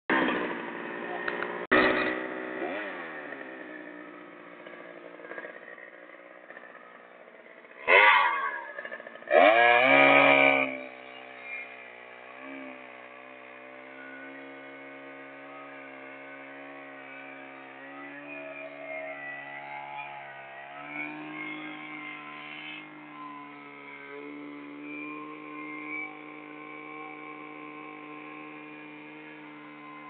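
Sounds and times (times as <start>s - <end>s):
chainsaw engine idling and revving: 0.1s - 30.0s.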